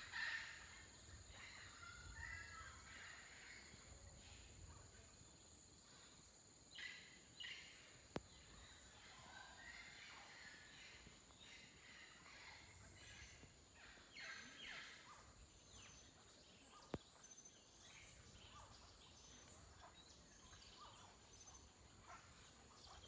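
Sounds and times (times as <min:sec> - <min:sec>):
faint birdsong: 0:00.0 - 0:23.0.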